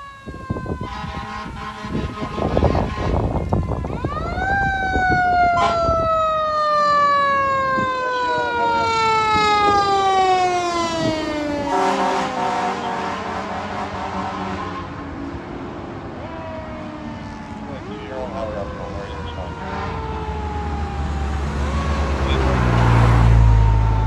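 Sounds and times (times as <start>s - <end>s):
fire engine siren: 0.0s - 24.0s.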